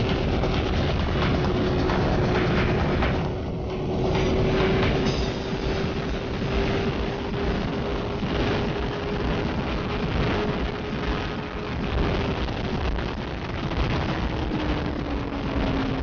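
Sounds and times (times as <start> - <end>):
motorcycle engine cruising: 0.0 - 16.0
wind rush: 0.0 - 16.0.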